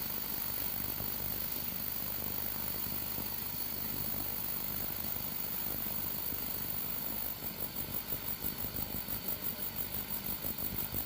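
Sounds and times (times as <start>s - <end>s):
soldering equipment hissing hum: 0.0s - 11.0s.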